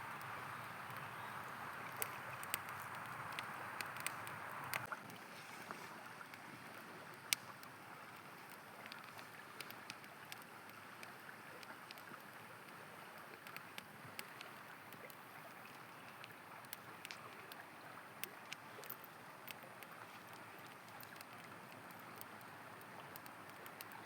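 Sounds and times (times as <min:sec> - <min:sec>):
campfire crackling and popping: 0:00.0 - 0:05.3, 0:06.0 - 0:24.0.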